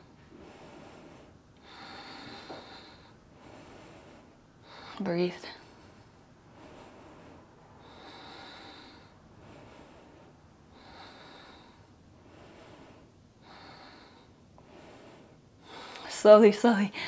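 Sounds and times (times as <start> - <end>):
faint slow breathing: 0.0 - 16.2.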